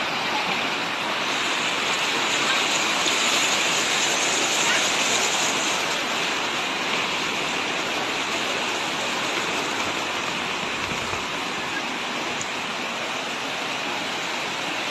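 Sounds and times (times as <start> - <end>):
floodwater rushing: 0.0 - 14.9.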